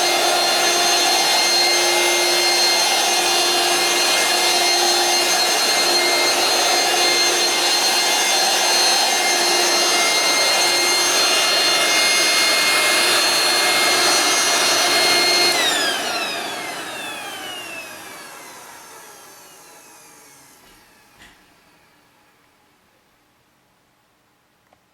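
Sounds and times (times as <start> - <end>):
vacuum cleaner motor whine: 0.0 - 22.5.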